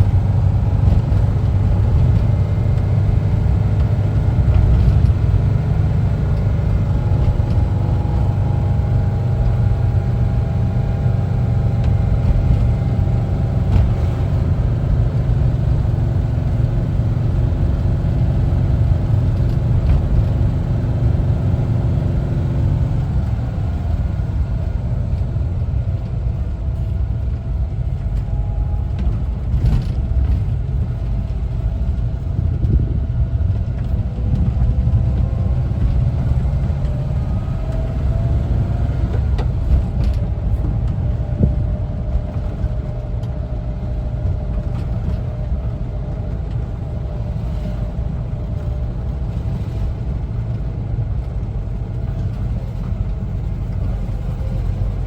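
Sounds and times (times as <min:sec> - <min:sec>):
faint engine whine: 0:00.0 - 0:55.0
van engine rumbling: 0:00.0 - 0:55.0.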